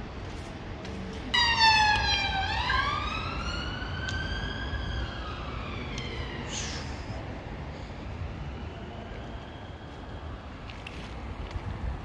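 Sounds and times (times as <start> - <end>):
emergency siren wailing: 1.3 - 11.1.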